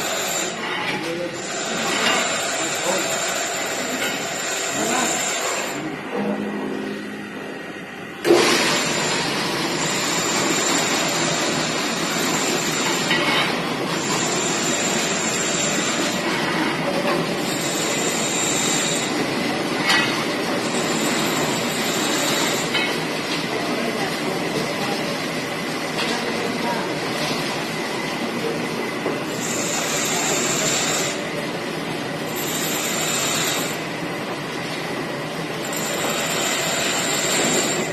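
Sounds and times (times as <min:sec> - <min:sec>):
plate rolling machine grinding: 0:00.0 - 0:07.0, 0:08.2 - 0:24.8, 0:27.2 - 0:37.9.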